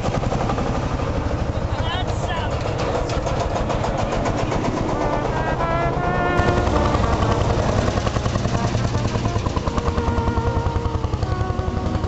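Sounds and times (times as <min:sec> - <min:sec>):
tractor engine chugging: 0:00.0 - 0:12.0.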